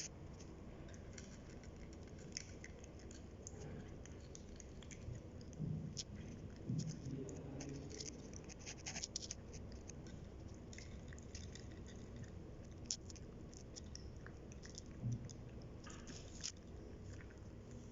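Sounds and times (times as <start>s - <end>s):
cats chewing food: 0.0s - 17.9s.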